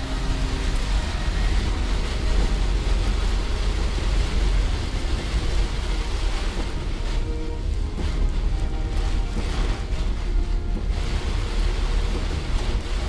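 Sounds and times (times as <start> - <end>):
van road and engine rumble: 0.0 - 13.0.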